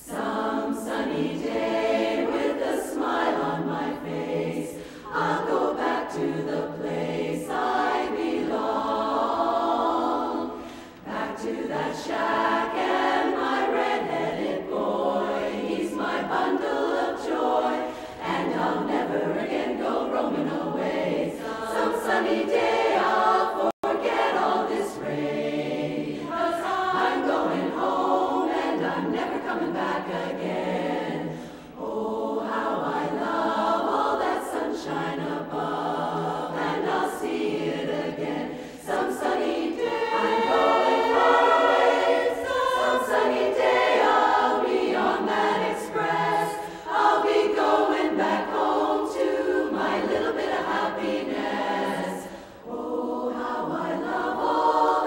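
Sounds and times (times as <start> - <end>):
women's chorus singing a cappella: 0.0 - 55.0.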